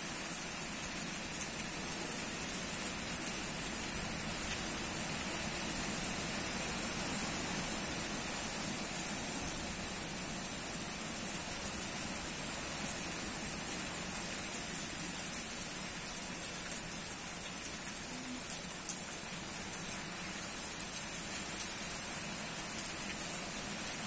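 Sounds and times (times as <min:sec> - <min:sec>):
hard rain on leafy trees: 0:00.0 - 0:24.0.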